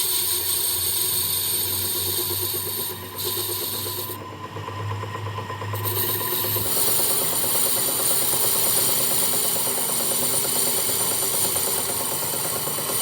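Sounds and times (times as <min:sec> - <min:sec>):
metalworking machine hissing: 0:00.0 - 0:04.3, 0:05.7 - 0:13.0.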